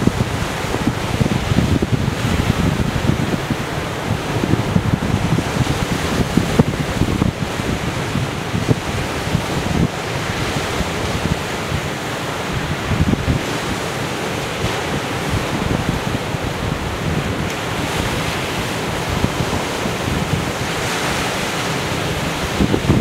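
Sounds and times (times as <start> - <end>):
waves breaking over rocks: 0.0 - 23.0
wind on microphone: 0.0 - 23.0.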